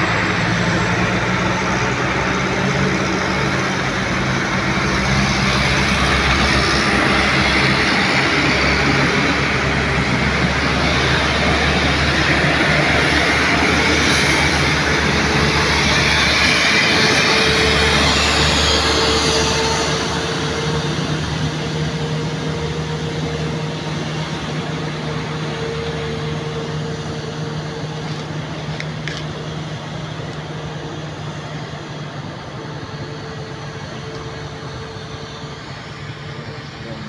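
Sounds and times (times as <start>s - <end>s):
truck engines droning: 0.0s - 37.0s.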